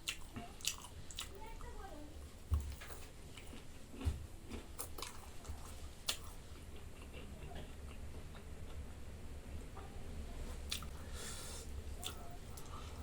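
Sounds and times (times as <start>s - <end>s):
person chewing food: 0.0s - 9.0s, 10.5s - 13.0s
low steady hum: 0.0s - 13.0s.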